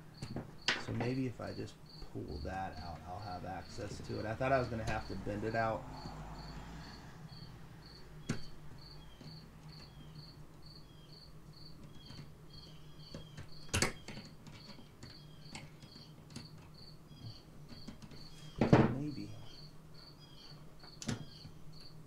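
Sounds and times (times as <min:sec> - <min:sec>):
faint low hum: 0:00.0 - 0:22.0
high insect chirping: 0:00.0 - 0:22.0.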